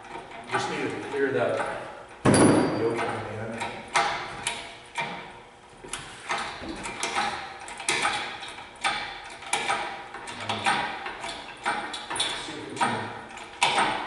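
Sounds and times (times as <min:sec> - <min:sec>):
hydraulic hoist pump clicks and clanks: 0:00.0 - 0:14.0.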